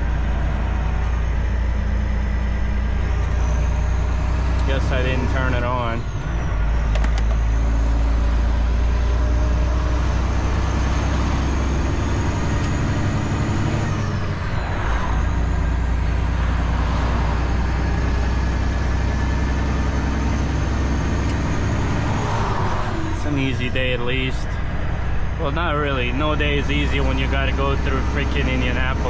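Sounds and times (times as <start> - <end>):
diesel engine drone: 0.0 - 29.0.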